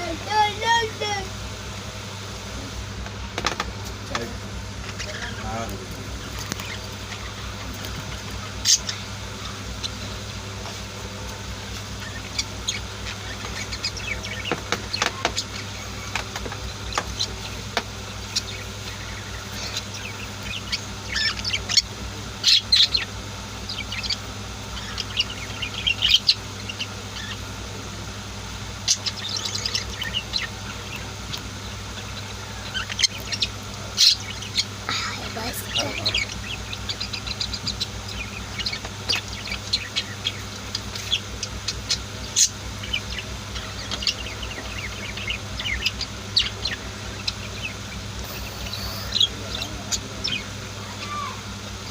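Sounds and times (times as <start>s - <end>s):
budgies chirping: 0.0s - 51.9s
steady low hum: 0.0s - 51.9s.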